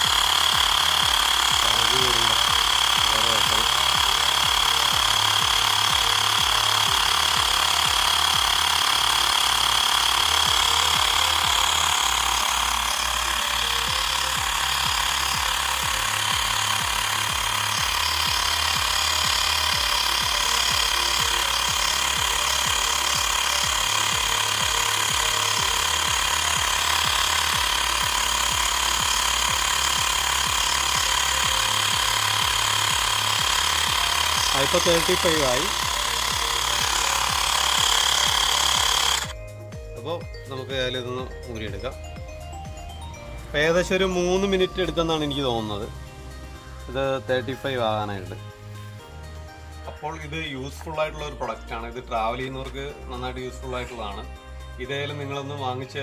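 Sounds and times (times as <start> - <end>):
air compressor whining: 0.0 - 55.6.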